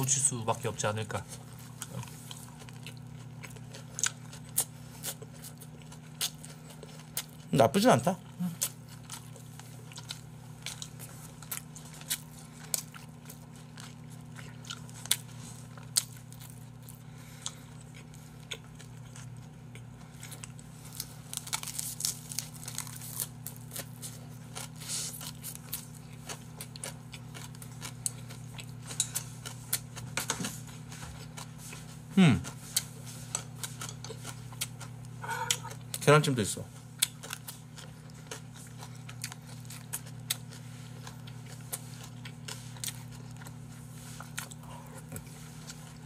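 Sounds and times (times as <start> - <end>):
chewing and crunching: 0.0 - 46.0
steady low hum: 0.0 - 46.0.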